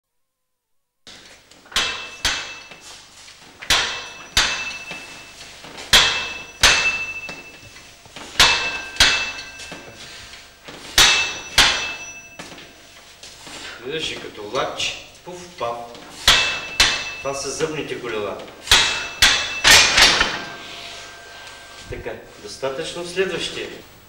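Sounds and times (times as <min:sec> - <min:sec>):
metal-on-metal clanging: 0:01.1 - 0:13.5, 0:16.0 - 0:23.0.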